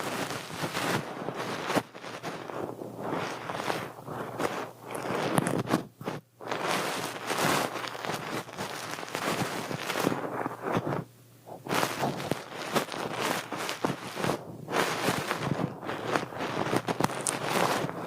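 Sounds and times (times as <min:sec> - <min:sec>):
crackly rustling with clicks: 0:00.0 - 0:18.0.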